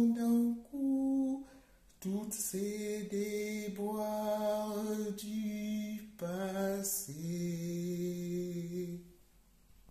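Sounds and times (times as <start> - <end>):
woman singing unaccompanied: 0.0 - 9.0.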